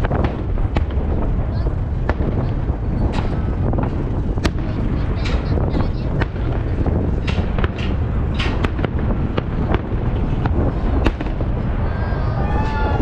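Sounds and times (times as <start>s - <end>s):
fireworks bangs and pops: 0.0s - 13.0s
low rumble: 0.0s - 13.0s.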